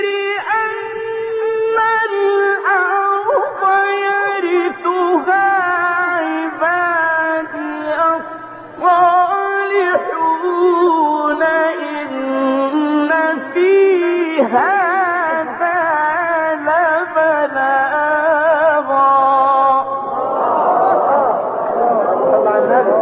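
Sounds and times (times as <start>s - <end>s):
man reciting melodically: 0.0s - 20.2s.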